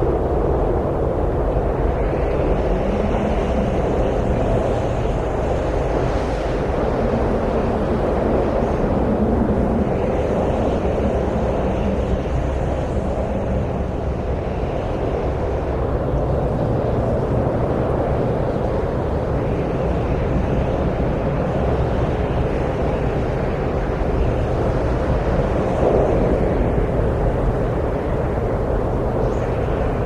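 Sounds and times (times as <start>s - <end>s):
wind rushing: 0.0s - 30.0s.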